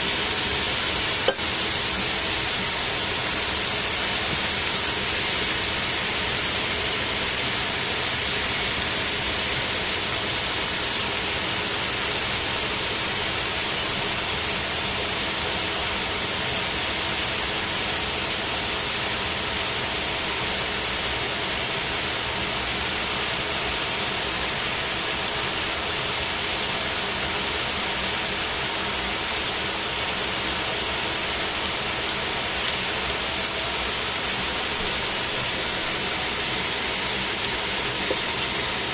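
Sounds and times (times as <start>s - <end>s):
chicken sizzling in frying pan: 0.0s - 38.9s.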